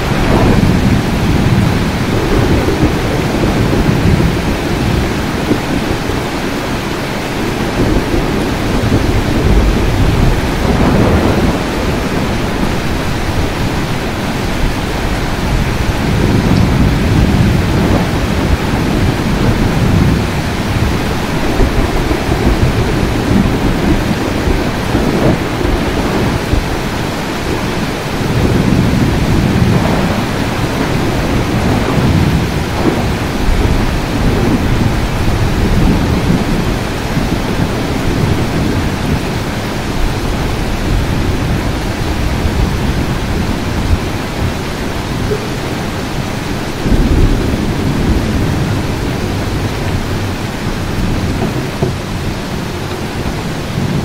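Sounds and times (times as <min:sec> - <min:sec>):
heavy rain: 0:00.0 - 0:54.0
thunder rumbling: 0:00.0 - 0:54.0.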